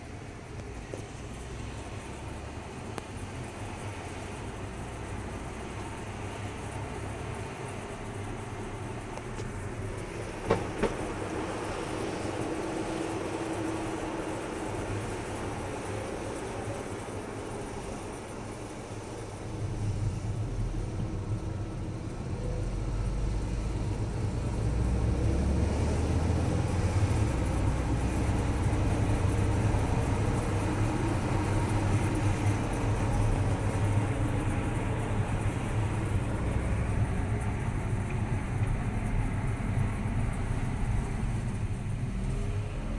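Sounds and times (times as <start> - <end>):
low road drone: 0.0 - 42.9.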